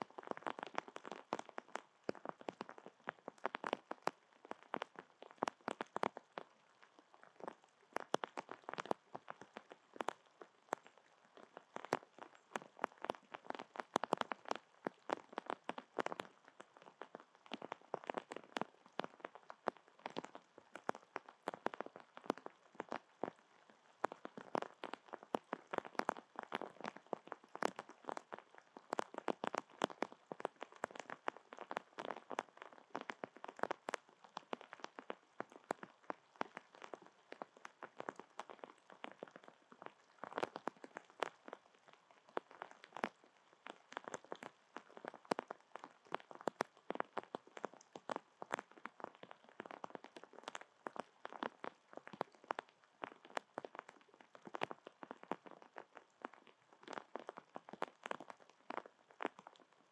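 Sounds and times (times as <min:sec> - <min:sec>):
raindrops tapping a surface: 0:00.0 - 0:59.8.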